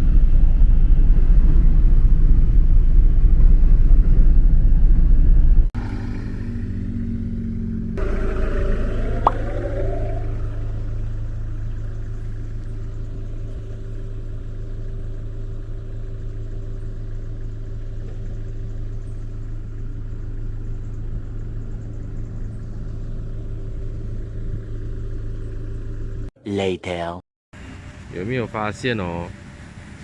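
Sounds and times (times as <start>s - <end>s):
road noise: 0.0s - 26.3s, 27.6s - 30.0s
vehicle engine running: 0.0s - 26.3s, 27.6s - 30.0s.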